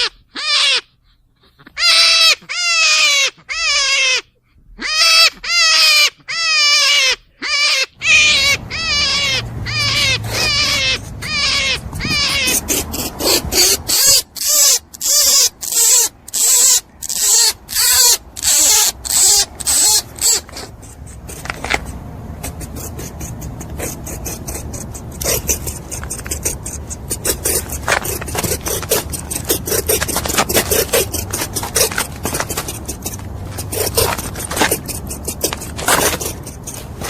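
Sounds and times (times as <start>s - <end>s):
animal squealing: 0.0s - 37.0s.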